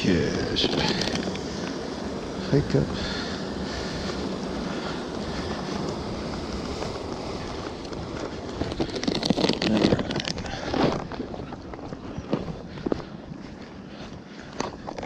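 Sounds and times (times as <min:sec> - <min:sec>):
loud irregular footsteps: 0:00.0 - 0:15.0
wind buffeting microphone: 0:00.0 - 0:15.0.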